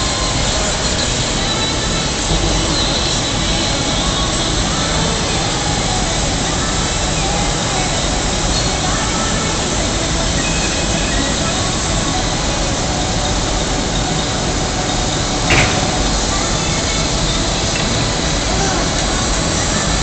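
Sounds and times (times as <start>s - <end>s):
furnace and blowers roaring: 0.0s - 20.0s.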